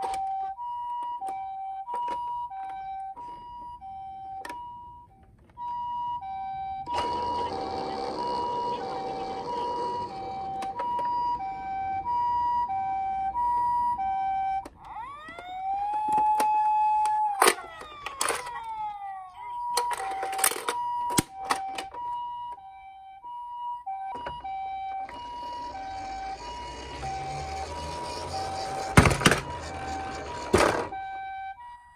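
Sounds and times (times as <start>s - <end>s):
toy siren two-tone: 0.0s - 31.9s
toy siren wail: 0.0s - 31.9s.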